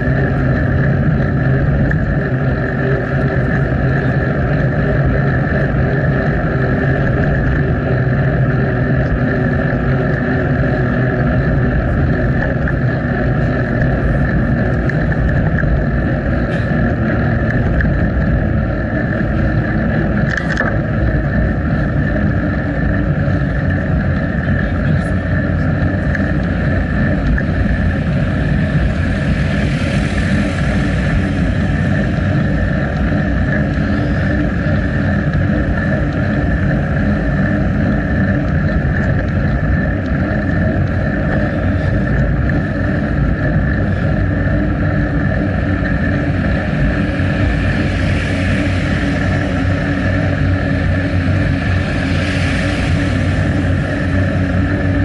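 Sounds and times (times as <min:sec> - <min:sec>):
bicycle rolling noise: 0:00.0 - 0:55.0
wind noise: 0:00.0 - 0:55.0.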